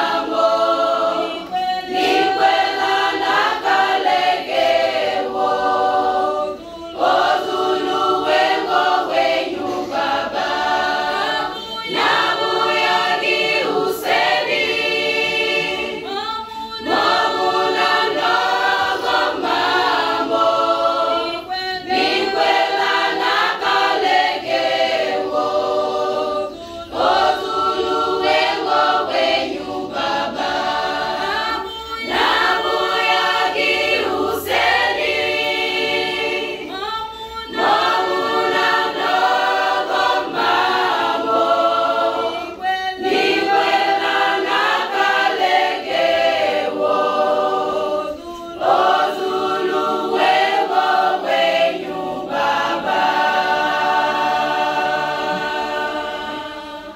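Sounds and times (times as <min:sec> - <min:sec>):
women's choir singing a cappella: 0:00.0 - 0:56.9.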